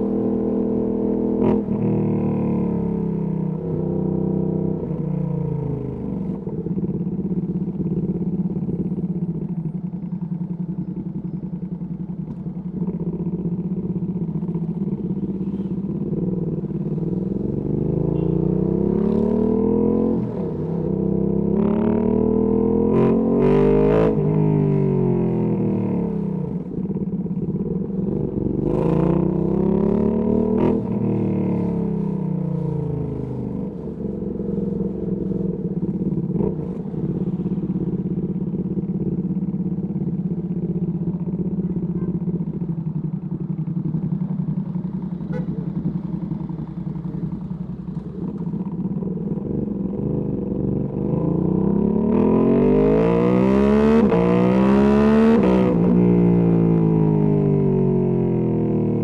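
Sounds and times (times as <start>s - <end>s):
motorcycle engine revving: 10.7s - 59.0s.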